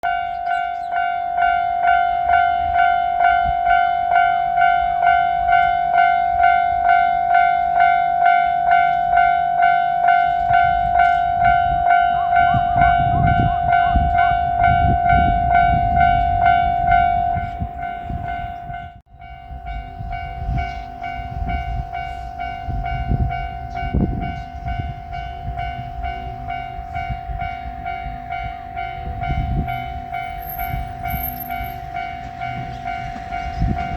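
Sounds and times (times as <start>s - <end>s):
level-crossing warning bell ringing: 0.0s - 33.9s
train clanking: 0.0s - 33.9s
train rumbling past: 0.0s - 33.9s.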